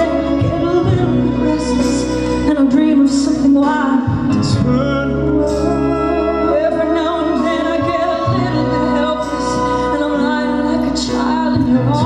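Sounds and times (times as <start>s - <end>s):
woman singing into a microphone: 0.0s - 4.4s, 5.3s - 12.0s
live band accompaniment: 0.0s - 12.0s.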